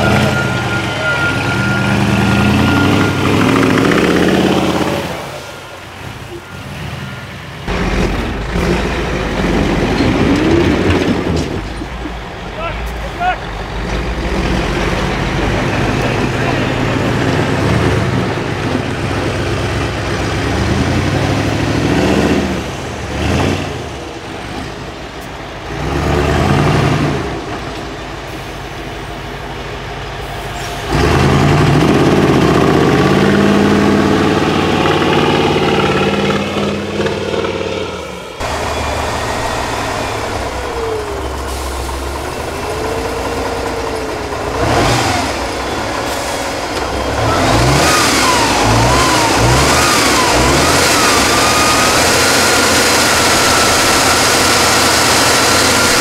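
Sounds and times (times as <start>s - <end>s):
diesel truck engines revving: 0.0s - 56.0s.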